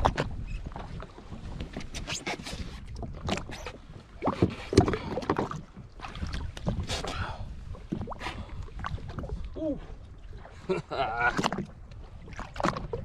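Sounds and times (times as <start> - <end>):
water splashing: 1.9 - 13.0.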